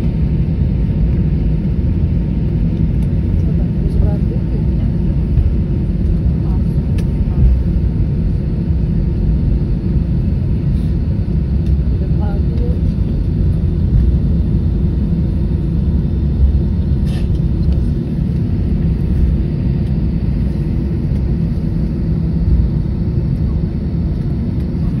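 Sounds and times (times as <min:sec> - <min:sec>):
road and engine rumble inside vehicle: 0:00.0 - 0:25.0.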